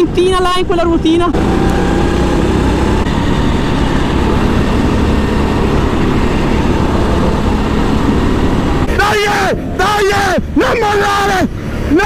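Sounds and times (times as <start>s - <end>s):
go-kart engine running: 0.0s - 12.0s.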